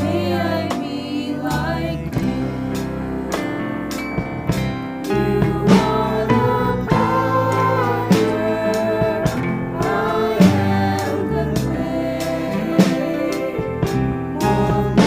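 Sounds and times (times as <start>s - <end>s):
gospel band with singing: 0.0s - 15.0s
drum hits: 2.2s - 15.0s.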